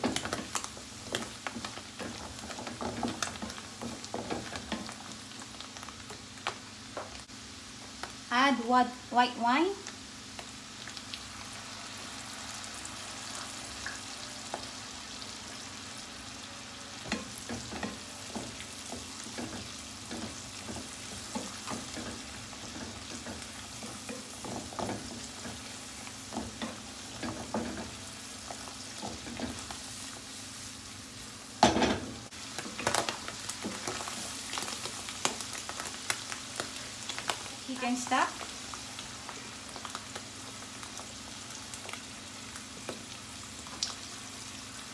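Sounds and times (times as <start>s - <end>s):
mushrooms sizzling in a pan: 0.0s - 44.9s.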